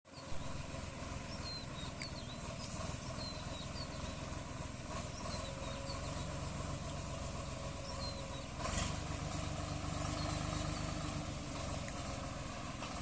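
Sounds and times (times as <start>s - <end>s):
small birds chirping: 0.1s - 8.6s, 9.9s - 12.2s
tractor diesel engine idling: 0.1s - 13.0s.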